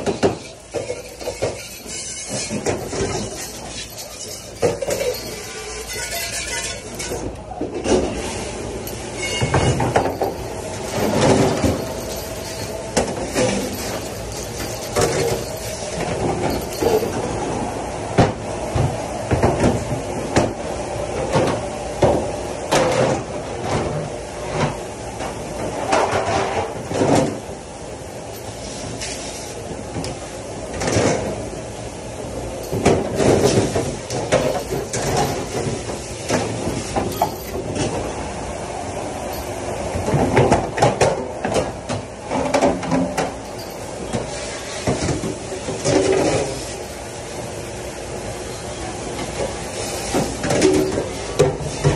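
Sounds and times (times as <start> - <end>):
dishes and racks clanking on counter: 0.0 - 17.6, 21.2 - 27.4, 28.3 - 31.4, 32.5 - 38.2, 39.3 - 46.8, 49.2 - 51.9.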